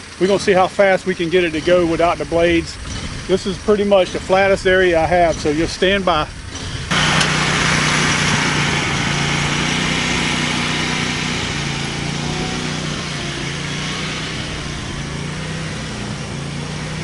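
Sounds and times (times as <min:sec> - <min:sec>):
mower engine running under load: 0:00.0 - 0:17.0.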